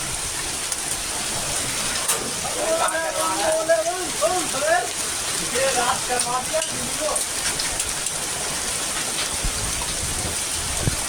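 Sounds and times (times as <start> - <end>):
heavy rain on road: 0.0 - 11.0.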